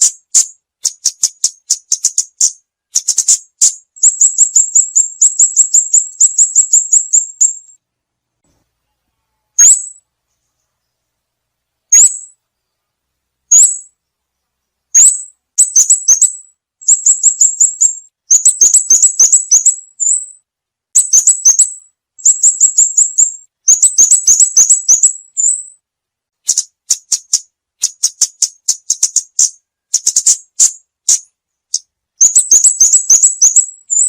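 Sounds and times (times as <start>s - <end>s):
bird chirping: 0.0s - 25.8s, 26.4s - 34.0s.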